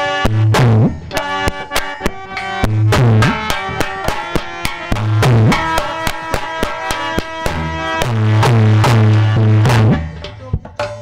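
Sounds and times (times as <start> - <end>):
folk melody of held notes: 0.0 - 10.9
quick hand-drum strokes: 0.3 - 11.0.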